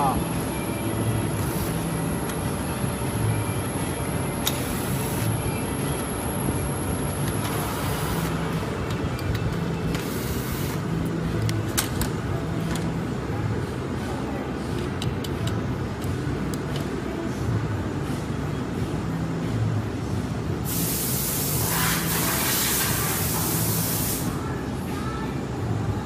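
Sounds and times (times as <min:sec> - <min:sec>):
workshop background noise: 0:00.0 - 0:26.0.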